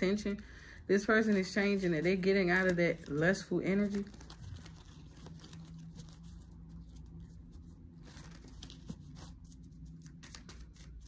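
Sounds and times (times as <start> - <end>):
low steady hum: 0.0 - 11.0
cards rustling and clicking: 1.2 - 11.0.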